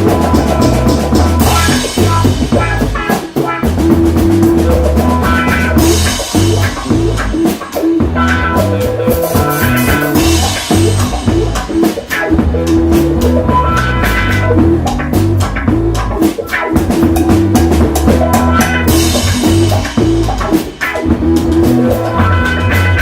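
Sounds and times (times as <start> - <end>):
bass line: 0.0 - 23.0
drum kit beat: 0.0 - 23.0
guitar: 0.0 - 23.0.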